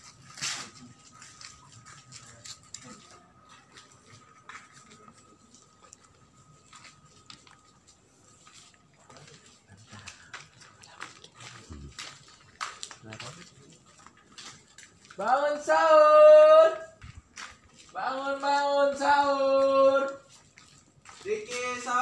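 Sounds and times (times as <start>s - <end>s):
faint footsteps: 0.0s - 22.0s.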